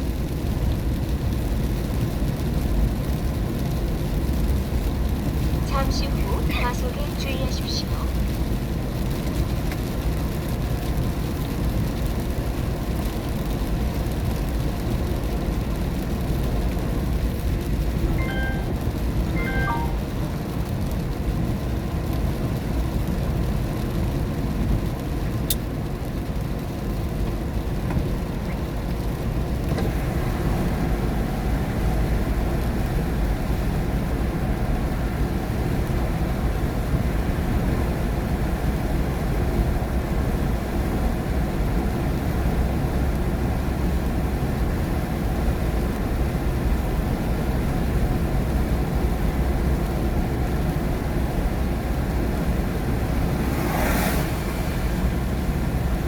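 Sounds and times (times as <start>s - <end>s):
tyres on wet road: 0.0s - 56.0s.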